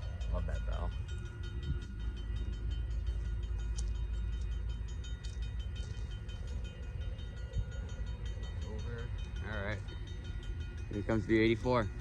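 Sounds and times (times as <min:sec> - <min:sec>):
bell ringing: 0:00.0 - 0:12.0
train rumbling: 0:00.0 - 0:12.0.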